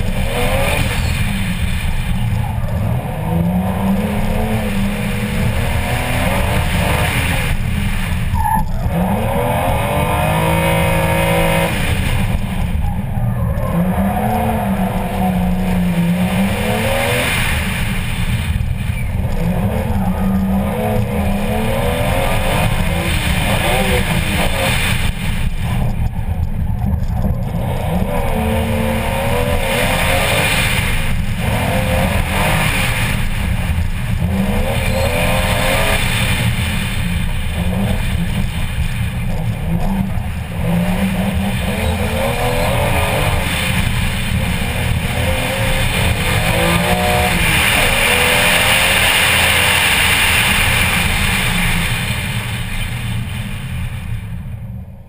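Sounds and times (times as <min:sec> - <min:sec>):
race car engine revving: 0:00.0 - 0:54.0
tyre and wind noise: 0:00.0 - 0:55.0.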